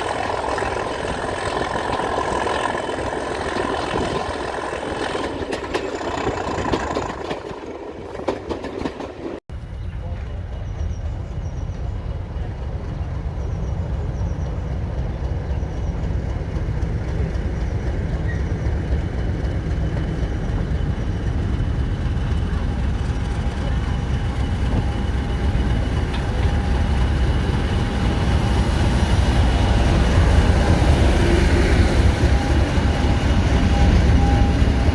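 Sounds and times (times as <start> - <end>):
diesel train rattling: 0.0 - 34.9
train low rumble: 0.0 - 34.9.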